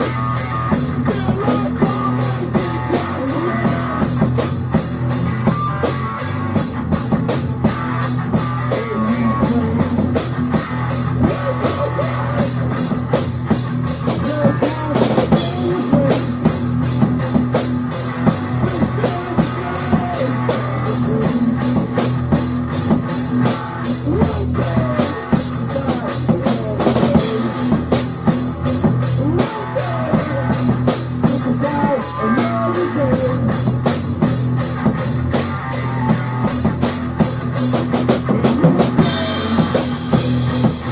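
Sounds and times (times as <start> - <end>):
low guitar or bass notes: 0.0 - 40.9
rock music: 0.0 - 40.9.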